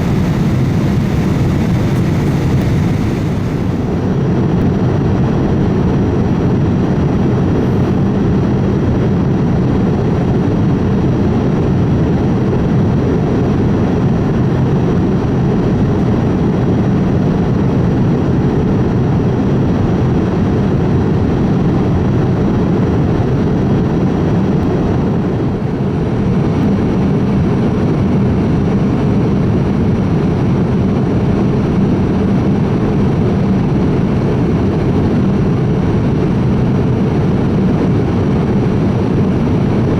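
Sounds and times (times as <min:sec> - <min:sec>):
aircraft cabin rumble and rush: 0:00.0 - 0:39.9.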